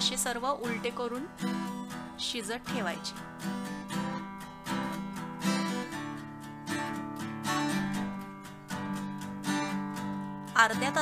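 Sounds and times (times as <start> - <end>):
strummed guitar: 0.0 - 11.0.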